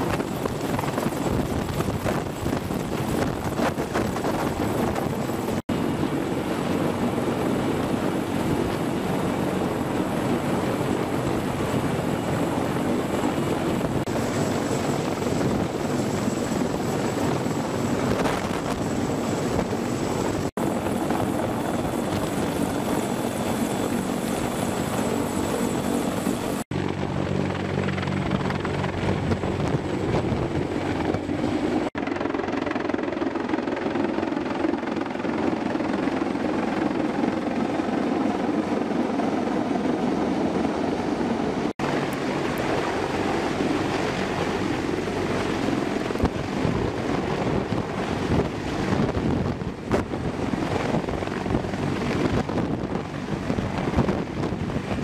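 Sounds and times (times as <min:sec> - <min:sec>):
helicopter rotor and turbine noise: 0:00.0 - 0:55.0.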